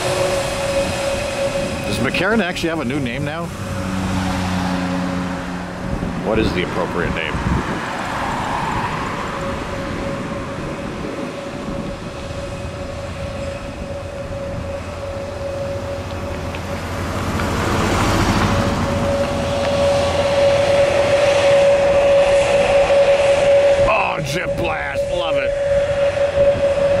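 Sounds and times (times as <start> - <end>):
jet engines whining: 0.0 - 27.0.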